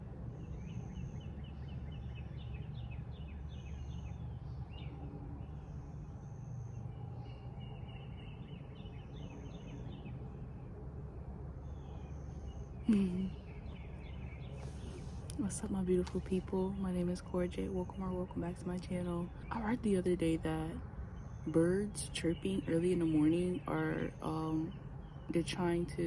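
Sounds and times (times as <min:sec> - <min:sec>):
birds singing: 0:00.0 - 0:10.8, 0:11.6 - 0:26.0
low background hum: 0:00.0 - 0:26.0.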